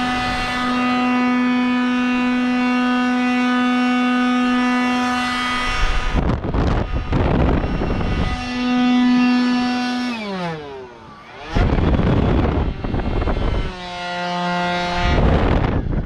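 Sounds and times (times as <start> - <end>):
siren-like wail: 0.0 - 16.0.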